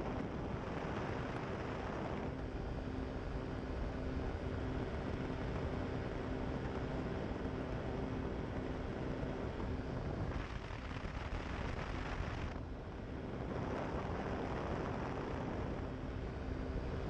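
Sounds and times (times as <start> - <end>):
aircraft engine running: 0.0 - 17.0
wind rushing across microphone: 0.0 - 17.0.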